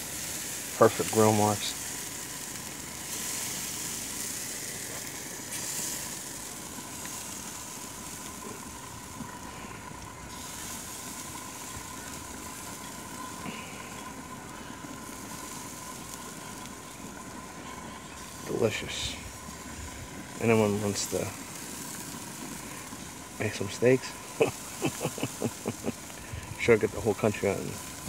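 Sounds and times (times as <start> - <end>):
steaks sizzling on a grill: 0.0 - 28.0.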